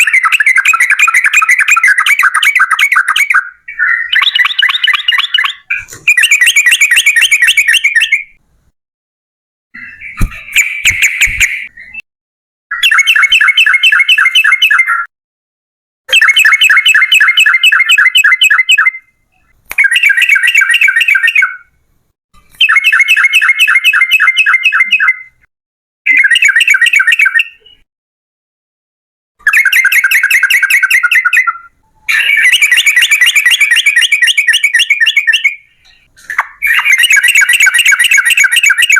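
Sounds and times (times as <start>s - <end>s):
bird singing bubbling song: 0.0s - 8.4s, 9.8s - 12.0s, 12.7s - 15.1s, 16.1s - 21.7s, 22.5s - 25.5s, 26.1s - 27.9s, 29.4s - 38.9s.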